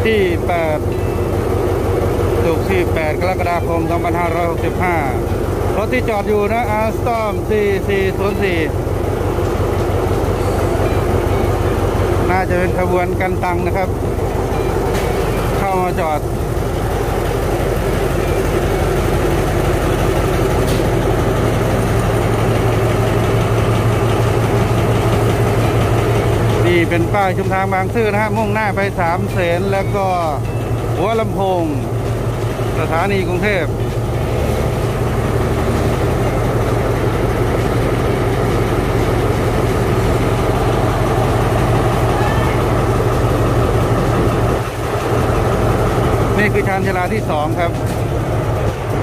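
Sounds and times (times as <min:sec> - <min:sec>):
diesel locomotive idling: 0:00.0 - 0:49.0.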